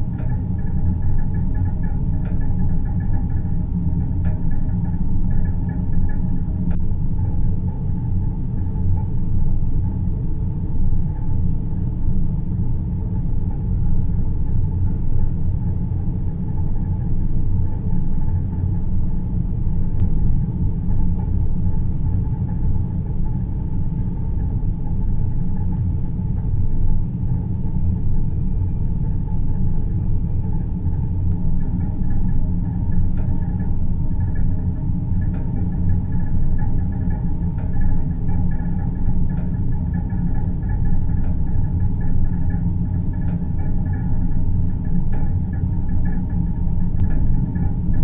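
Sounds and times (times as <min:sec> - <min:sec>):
deep rumble: 0:00.0 - 0:48.0
faint higher hum: 0:00.0 - 0:48.0.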